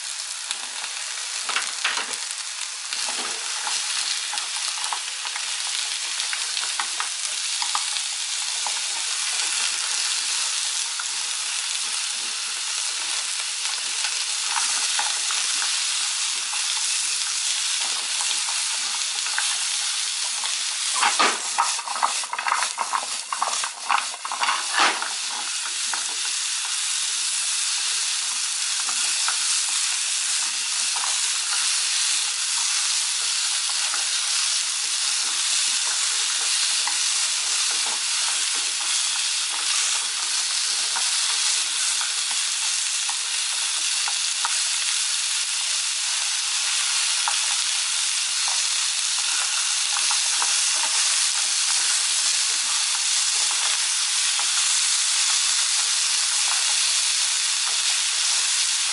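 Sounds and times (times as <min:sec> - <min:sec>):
vegetables sizzling in a frying pan: 0:00.0 - 0:58.9.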